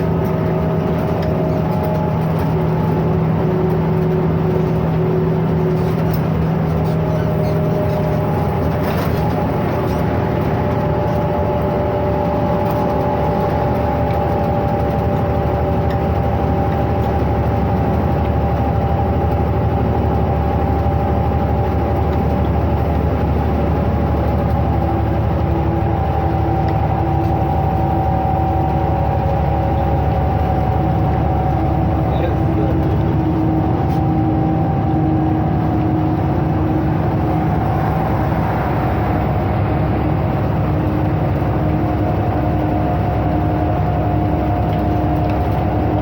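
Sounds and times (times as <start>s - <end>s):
bus diesel engine rumbling: 0.0s - 46.0s
drivetrain whine: 0.0s - 46.0s.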